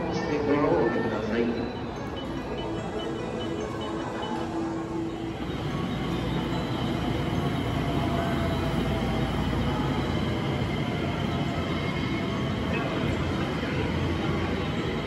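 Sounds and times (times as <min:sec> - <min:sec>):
faint high whine: 0:00.0 - 0:15.0
wheels rumbling on rails: 0:01.9 - 0:15.0.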